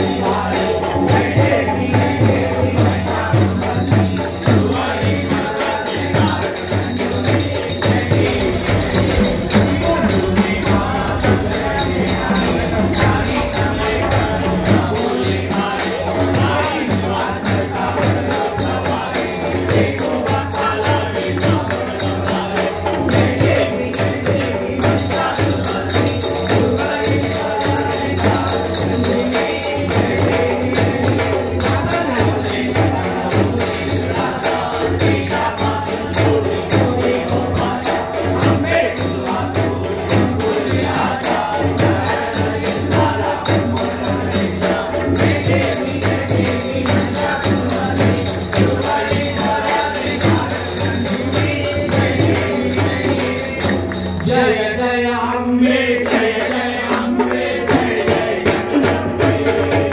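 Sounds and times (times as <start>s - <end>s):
drum beaten in steady rhythm: 0.0s - 54.6s, 55.9s - 59.9s
jingling percussion: 0.0s - 54.8s, 56.0s - 59.9s
men singing together: 0.0s - 59.9s.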